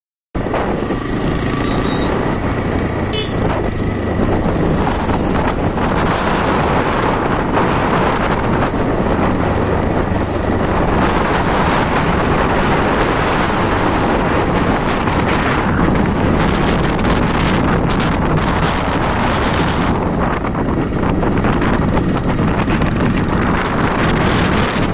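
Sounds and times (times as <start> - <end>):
vehicle engine and road noise: 0.4 - 24.9
wind on microphone: 0.4 - 24.9.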